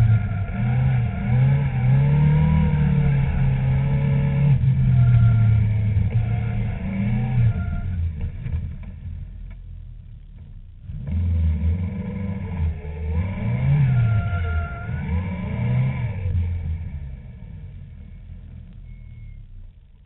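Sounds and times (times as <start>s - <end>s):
sports car engine revving: 0.0s - 20.0s.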